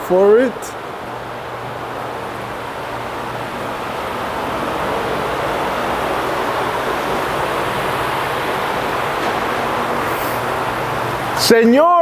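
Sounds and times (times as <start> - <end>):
fans rushing air: 0.0 - 12.0.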